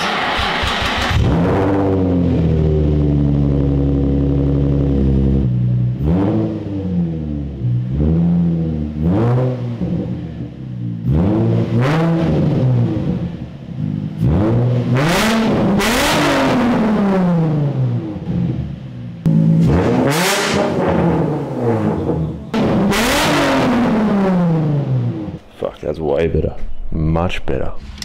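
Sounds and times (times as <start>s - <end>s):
car engine idling and revving: 0.0s - 25.4s.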